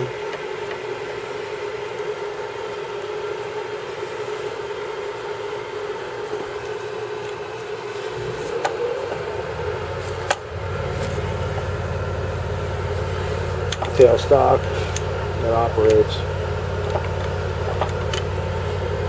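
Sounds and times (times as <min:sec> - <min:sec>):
bench lathe whining: 0:00.0 - 0:19.0
deep steady hum: 0:03.2 - 0:19.0.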